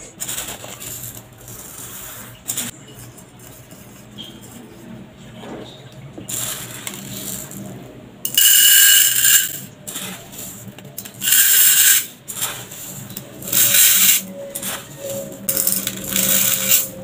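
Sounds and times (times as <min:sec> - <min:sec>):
spoon rustling through rice: 0:00.0 - 0:04.9, 0:06.3 - 0:17.0.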